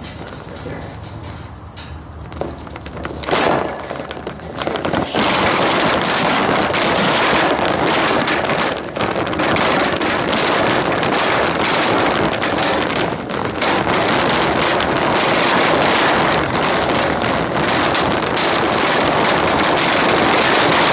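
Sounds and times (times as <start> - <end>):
shopping cart rattling on asphalt: 0.0 - 20.9.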